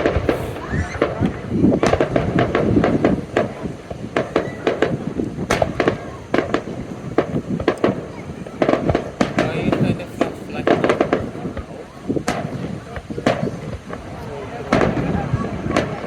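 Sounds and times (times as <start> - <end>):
fireworks cracking and banging: 0.0 - 16.0.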